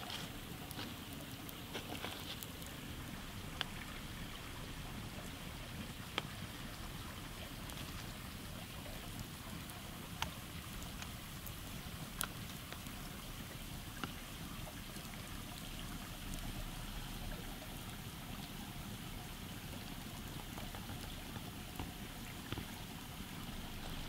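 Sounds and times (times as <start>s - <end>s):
campfire crackling and popping: 0.0s - 24.0s
stream water rushing: 0.0s - 24.0s.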